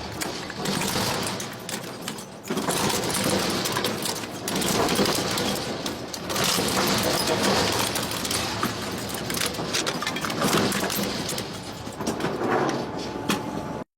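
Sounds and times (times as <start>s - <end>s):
shredder grinding metal: 0.0s - 12.0s.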